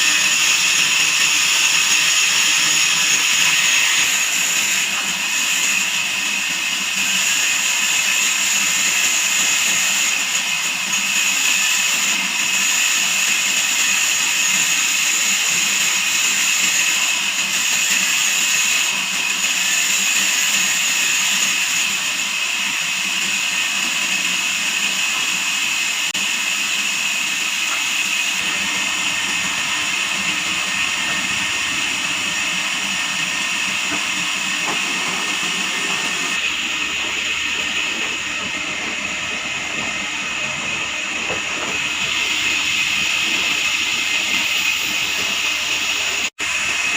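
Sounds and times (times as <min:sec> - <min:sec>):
band saw whining over hiss: 0:00.0 - 0:46.9.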